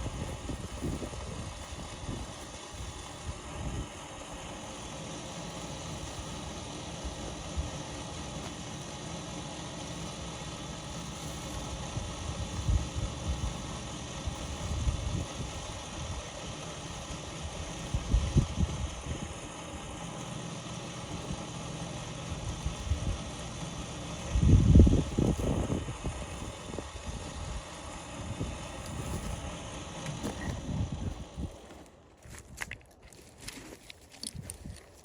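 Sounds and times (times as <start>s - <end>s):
engine running steadily: 0.0s - 32.7s.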